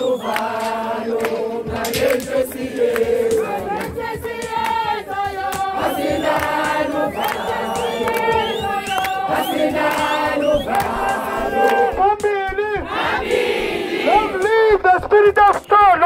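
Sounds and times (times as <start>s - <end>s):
crowd singing in chorus: 0.0s - 12.0s, 12.8s - 14.4s.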